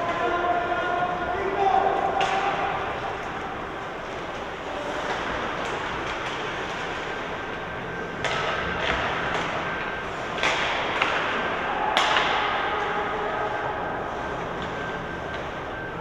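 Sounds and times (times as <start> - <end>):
hockey sticks and puck clacking: 0.0 - 13.4, 14.6 - 15.7
ice rink background: 0.0 - 16.0.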